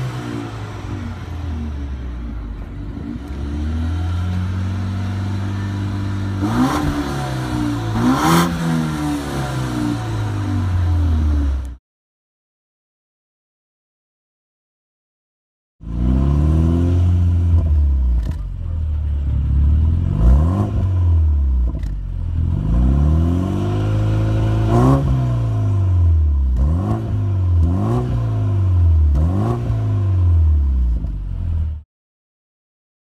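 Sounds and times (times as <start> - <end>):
car engine revving: 0.0 - 11.8, 15.8 - 31.8.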